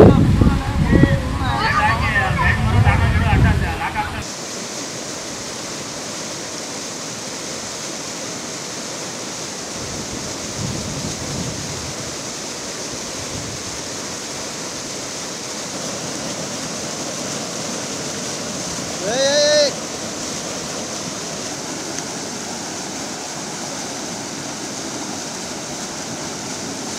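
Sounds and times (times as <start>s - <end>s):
floodwater rushing: 0.0s - 26.9s.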